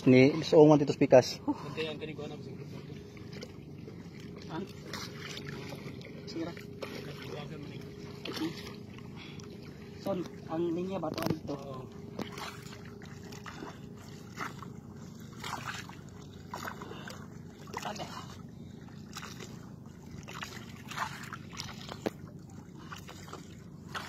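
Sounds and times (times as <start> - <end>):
steady low hum: 0.0 - 24.0
water slapping against boat hull: 2.7 - 24.0.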